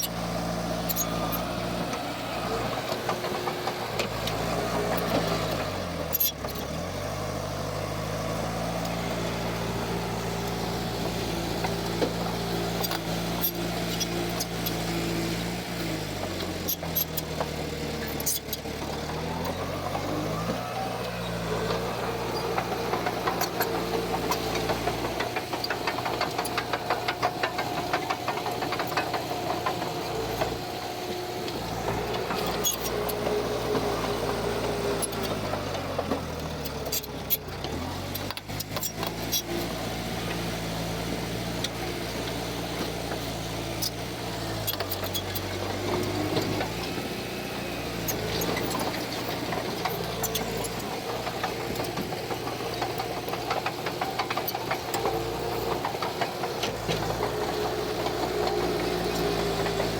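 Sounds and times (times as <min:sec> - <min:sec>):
heavy diesel engine running: 0:00.0 - 0:59.9
machinery clanking and rattling: 0:00.0 - 0:59.9.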